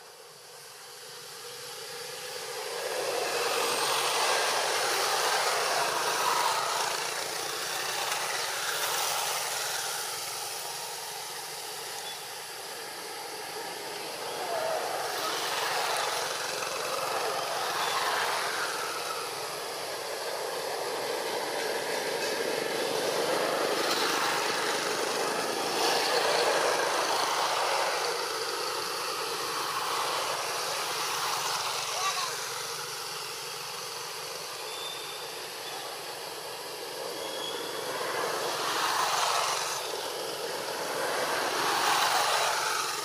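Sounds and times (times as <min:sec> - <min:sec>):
outdoor rushing hiss: 0:00.0 - 0:43.0.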